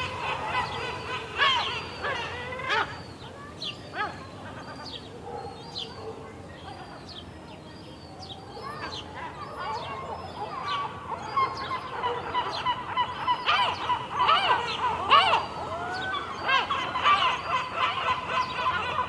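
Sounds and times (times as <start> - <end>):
flock of gulls calling: 0.0 - 19.0.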